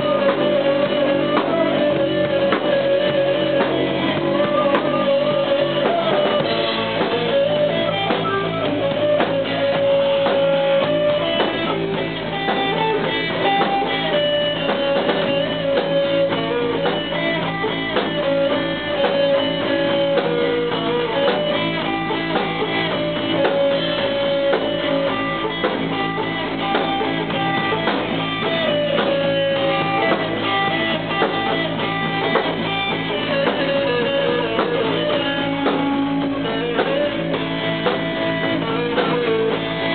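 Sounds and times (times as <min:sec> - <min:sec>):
guitar music: 0:00.0 - 0:39.9.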